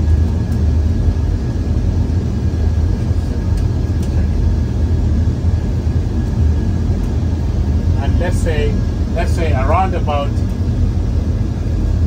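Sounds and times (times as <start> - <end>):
faint engine whine: 0.0 - 12.0
jet engine low rumble: 0.0 - 12.0.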